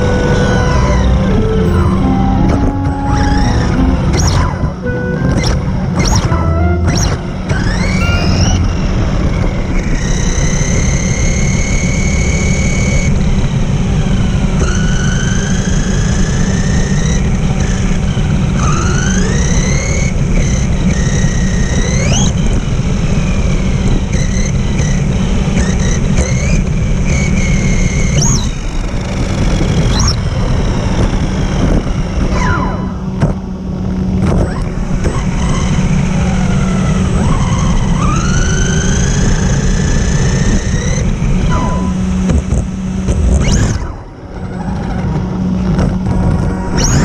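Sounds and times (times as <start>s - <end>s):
electric motor of toy car whining: 5.3s - 32.3s, 34.3s - 45.2s, 46.7s - 47.0s.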